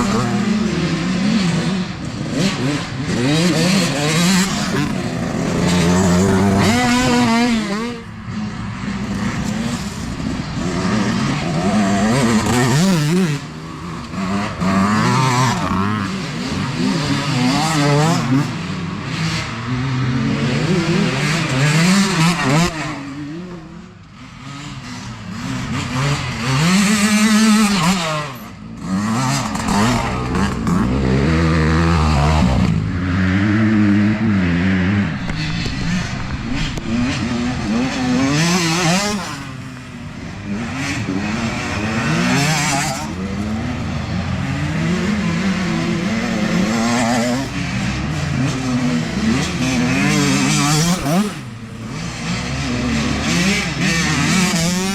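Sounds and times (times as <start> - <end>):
dirt bike engines revving: 0.0 - 54.9
dirt bikes passing close: 0.0 - 54.9.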